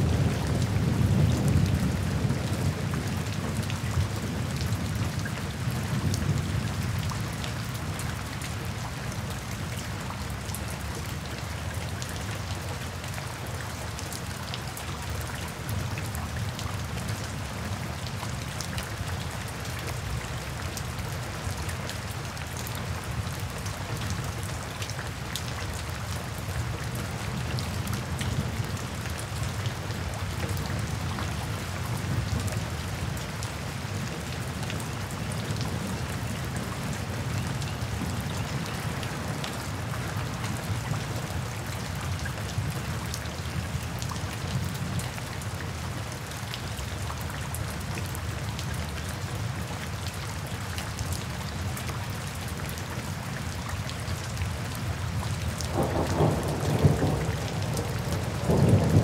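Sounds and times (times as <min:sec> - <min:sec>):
rain falling through trees: 0:00.0 - 0:59.0.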